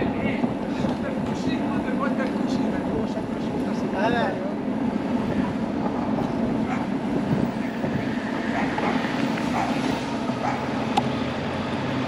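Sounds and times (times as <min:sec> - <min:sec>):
bicycle rolling and wind noise: 0:00.0 - 0:12.0.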